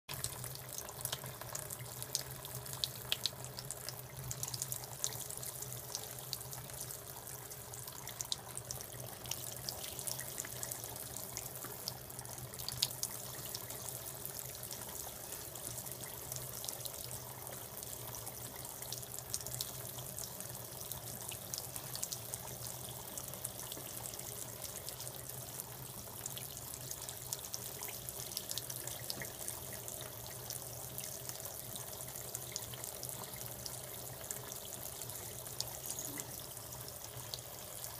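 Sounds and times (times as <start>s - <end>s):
tap water running into basin: 0.1s - 37.9s
water splashes and drips: 0.1s - 37.9s.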